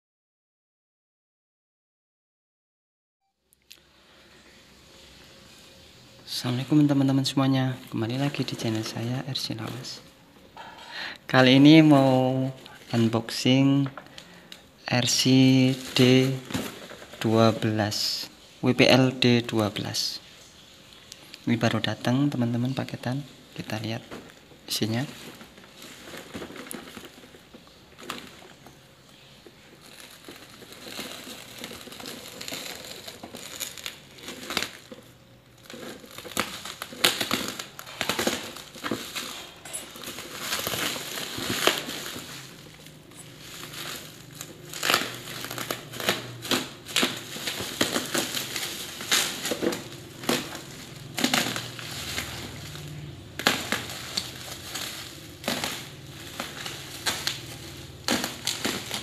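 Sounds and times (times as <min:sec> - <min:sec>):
plastic packaging crackling: 0:04.9 - 0:10.2, 0:10.8 - 0:59.0.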